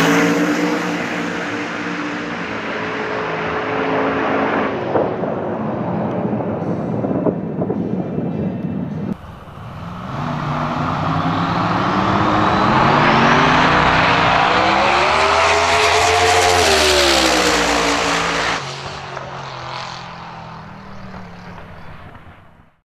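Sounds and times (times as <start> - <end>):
race car engine passing: 0.0 - 6.2, 9.1 - 22.8.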